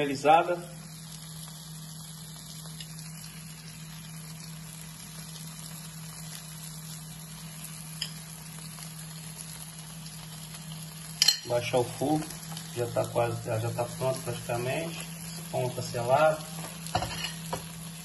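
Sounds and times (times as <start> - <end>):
meat sizzling on a griddle: 0.0 - 18.0
steady low hum: 0.0 - 18.0.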